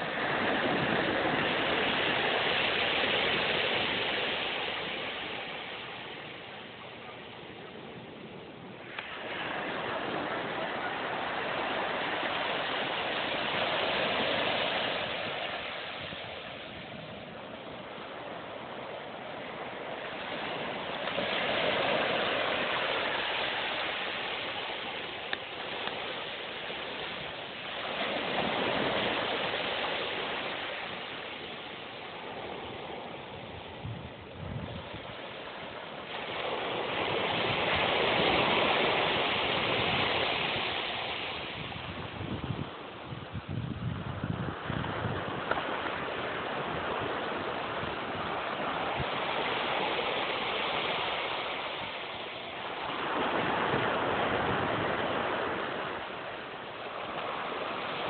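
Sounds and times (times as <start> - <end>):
waves washing up a sandy beach: 0.0 - 58.0.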